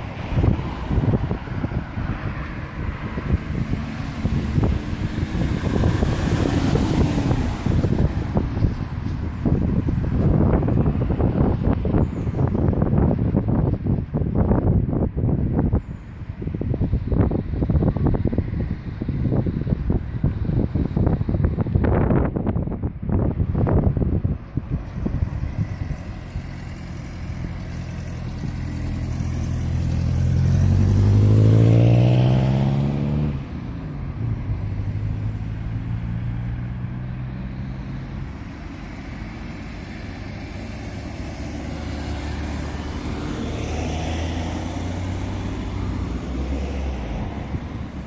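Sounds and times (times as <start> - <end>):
vehicle engine accelerating: 0.0 - 15.0, 23.2 - 48.0.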